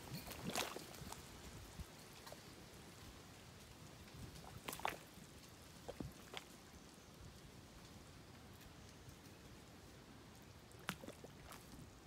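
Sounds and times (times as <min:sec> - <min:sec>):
quiet outdoor ambience: 0:00.0 - 0:12.0.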